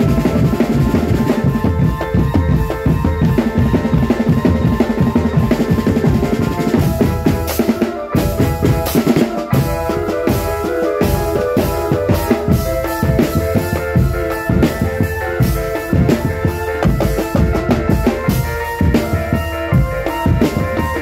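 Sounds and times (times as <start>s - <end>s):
marching drum band playing: 0.0s - 21.0s
melody over drums: 0.0s - 21.0s.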